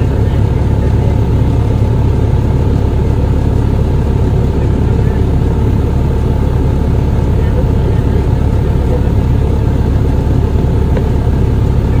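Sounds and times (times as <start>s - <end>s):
low rumble of vehicle engines: 0.0s - 12.0s.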